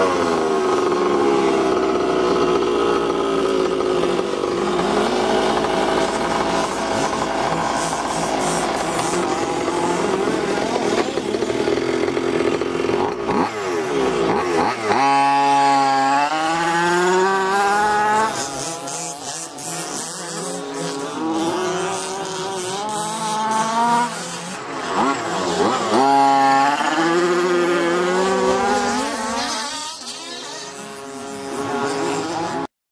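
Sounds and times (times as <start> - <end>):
model car engine revving: 0.0 - 32.7.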